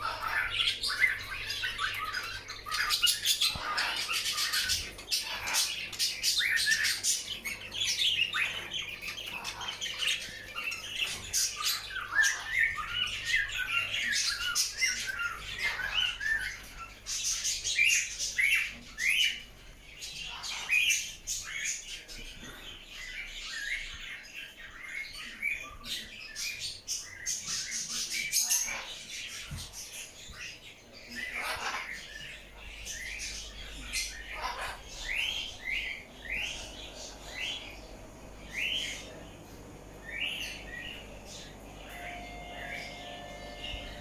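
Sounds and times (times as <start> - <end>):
caged birds chirping: 0.0 - 44.0.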